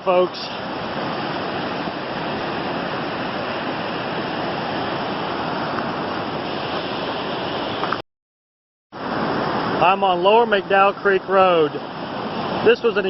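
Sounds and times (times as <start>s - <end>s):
floodwater roaring: 0.0s - 8.0s, 8.9s - 13.0s.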